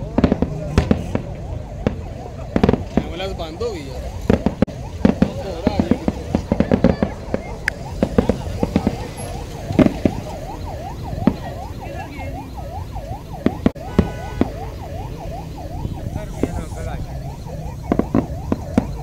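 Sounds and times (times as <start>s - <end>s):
fireworks bangs: 0.0s - 19.0s
siren yelping: 0.0s - 19.0s.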